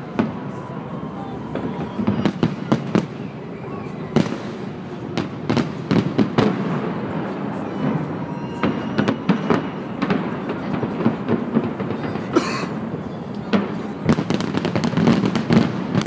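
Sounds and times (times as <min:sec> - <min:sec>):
distant fireworks bangs: 0:01.5 - 0:03.4, 0:04.1 - 0:16.0.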